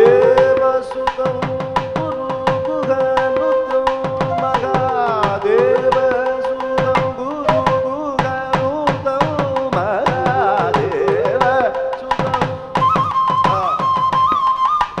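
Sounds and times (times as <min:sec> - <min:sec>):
bamboo flute melody: 0:00.0 - 0:09.4, 0:10.4 - 0:15.0
man singing: 0:00.0 - 0:14.0
hand drum strokes: 0:00.0 - 0:15.0.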